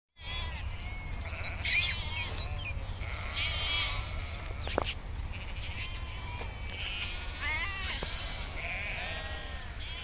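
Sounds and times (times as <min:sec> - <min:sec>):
sheep bleating: 0:00.2 - 0:10.0.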